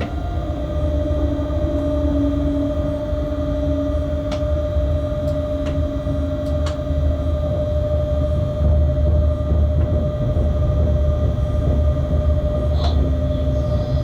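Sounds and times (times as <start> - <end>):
locomotive low rumble: 0.0 - 14.0.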